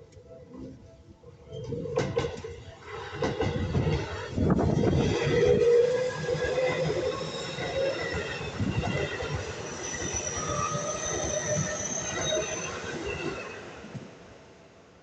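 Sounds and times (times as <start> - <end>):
electric train running past: 0.0 - 15.0.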